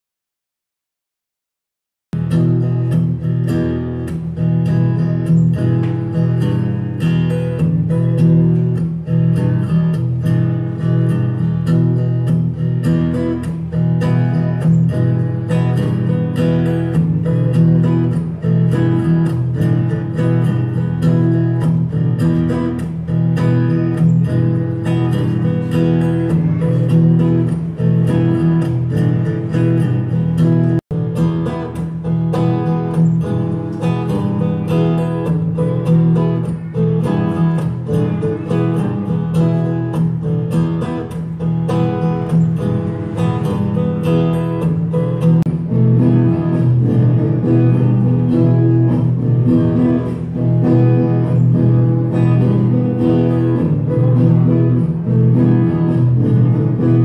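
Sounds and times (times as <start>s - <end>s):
acoustic guitar strumming: 2.2s - 57.0s.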